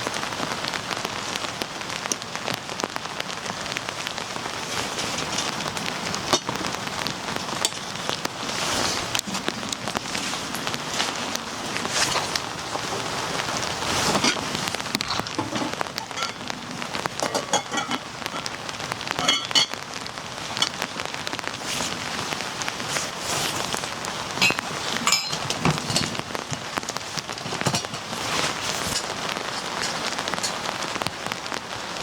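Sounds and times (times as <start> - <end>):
rain falling: 0.0 - 32.0
raindrops tapping a surface: 0.0 - 32.0.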